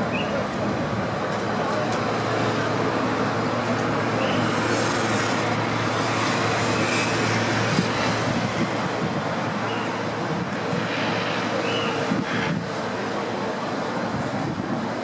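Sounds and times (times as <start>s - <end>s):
distant engine and traffic: 0.0s - 15.0s.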